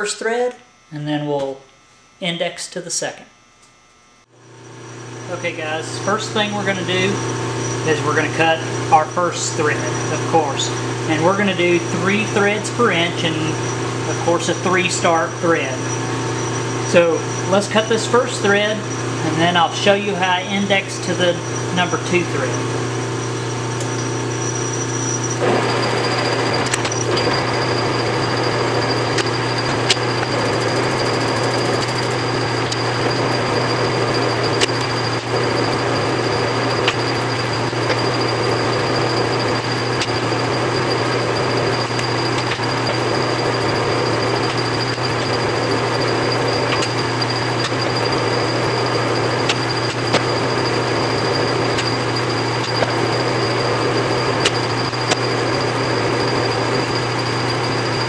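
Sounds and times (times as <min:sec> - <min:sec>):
lathe running with high whine: 0:00.0 - 0:58.0.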